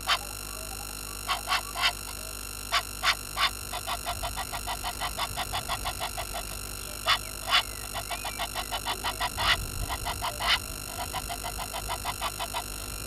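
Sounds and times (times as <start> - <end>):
frogs calling with clicking notes: 0.0 - 13.0.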